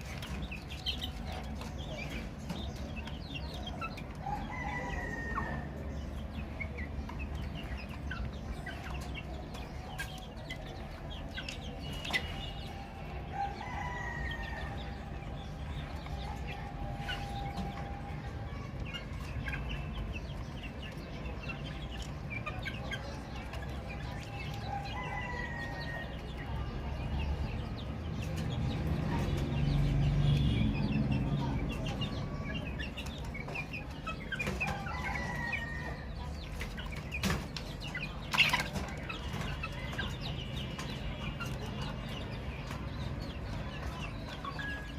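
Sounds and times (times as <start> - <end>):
baby chicks cheeping: 0.0 - 44.9.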